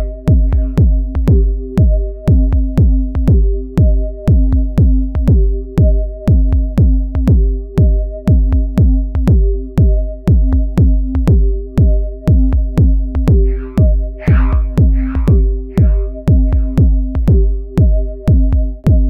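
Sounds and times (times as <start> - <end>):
drum machine kick beat: 0.0 - 19.0.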